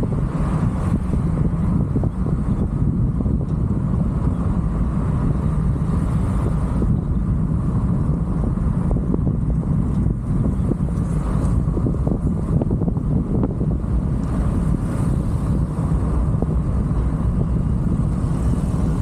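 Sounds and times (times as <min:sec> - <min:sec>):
car road and engine noise: 0:00.0 - 0:19.0
wind buffeting microphone: 0:00.0 - 0:19.0.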